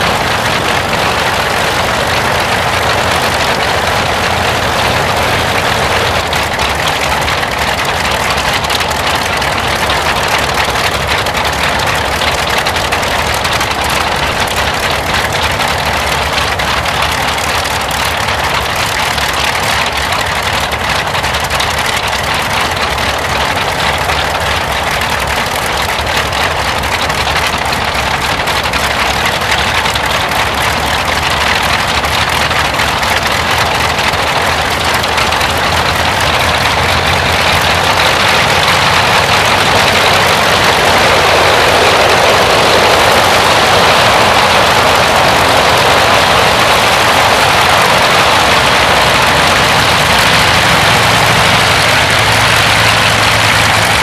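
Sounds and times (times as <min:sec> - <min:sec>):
propeller aircraft engines taxiing: 0:00.0 - 0:54.0.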